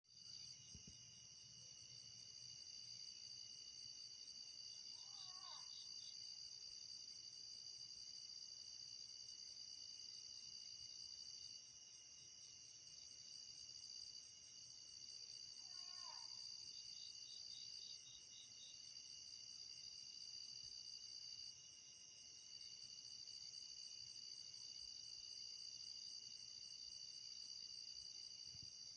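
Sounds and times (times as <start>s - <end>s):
night insects chorus: 0.2s - 28.9s.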